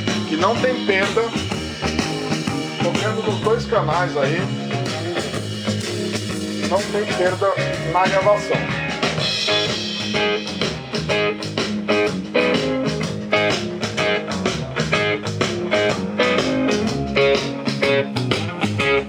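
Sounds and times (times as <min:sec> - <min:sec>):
plucked guitar music over loudspeakers: 0:00.0 - 0:19.0.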